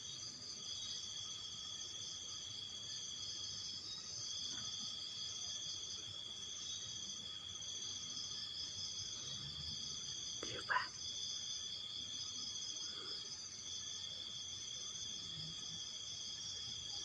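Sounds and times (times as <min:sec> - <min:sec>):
crickets trilling: 0:00.1 - 0:17.0.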